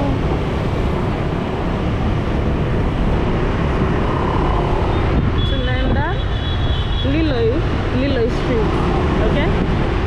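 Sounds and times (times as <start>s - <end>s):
motorcycle and wind roar: 0.0s - 10.0s.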